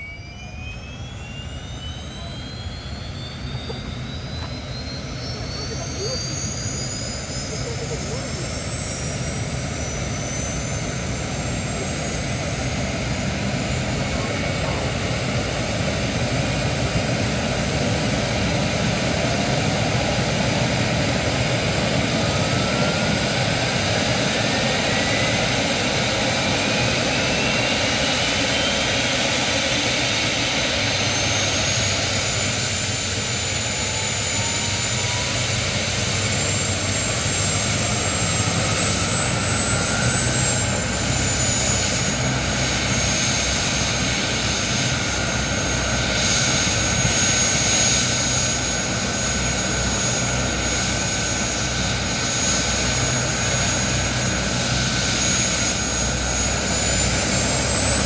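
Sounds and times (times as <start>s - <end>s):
helicopter turbine engines whining: 0.0s - 58.0s.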